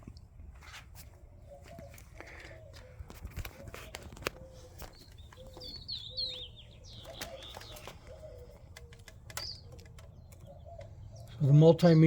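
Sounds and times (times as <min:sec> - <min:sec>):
birds chirping and warbling: 0:01.0 - 0:12.0
dove cooing: 0:01.4 - 0:11.6.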